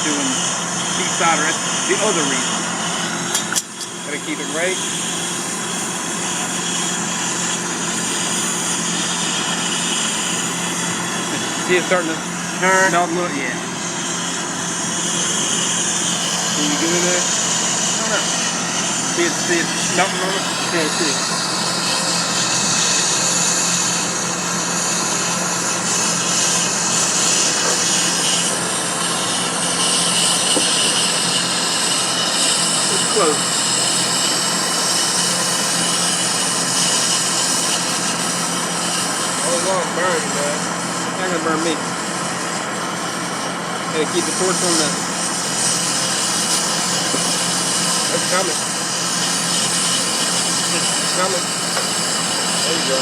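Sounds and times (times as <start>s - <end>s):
torch flame hissing: 0.0s - 53.0s.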